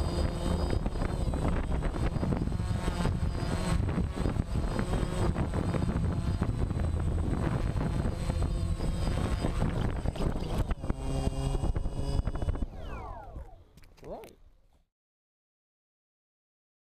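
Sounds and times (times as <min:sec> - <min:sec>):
helicopter motor and rotor: 0:00.0 - 0:14.4.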